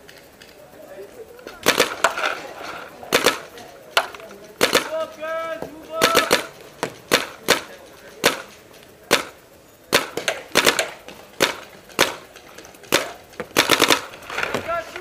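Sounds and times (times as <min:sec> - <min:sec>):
paintball gun shots: 0:01.5 - 0:02.5, 0:03.1 - 0:05.1, 0:06.0 - 0:15.0.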